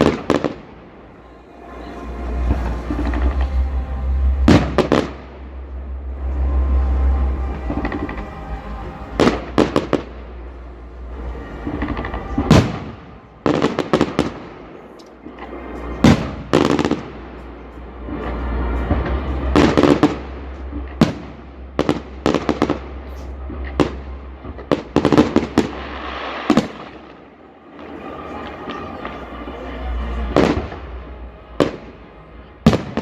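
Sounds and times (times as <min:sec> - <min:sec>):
fireworks bangs and crackling: 0:00.0 - 0:01.1, 0:02.2 - 0:33.0
low rumble: 0:00.0 - 0:33.0.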